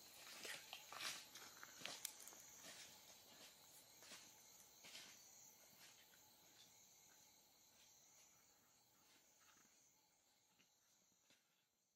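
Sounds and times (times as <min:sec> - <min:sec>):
night insects chirring: 0:00.0 - 0:11.9.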